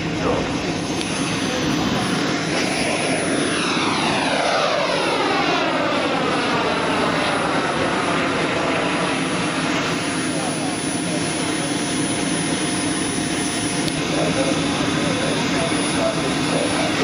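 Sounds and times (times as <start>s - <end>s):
falling turbine whine: 0.0s - 17.0s
model jet engine roar: 0.0s - 17.0s.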